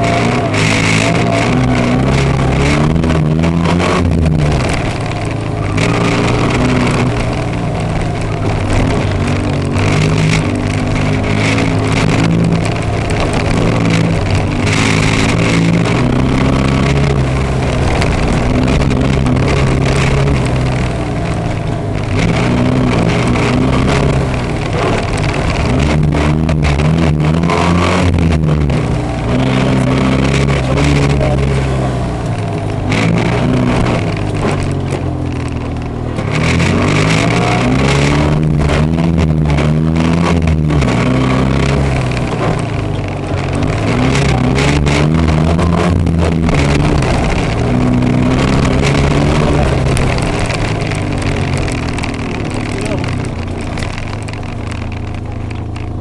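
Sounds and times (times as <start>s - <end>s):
rally car engine revving: 0.0s - 56.0s
tyre and road noise: 0.0s - 56.0s.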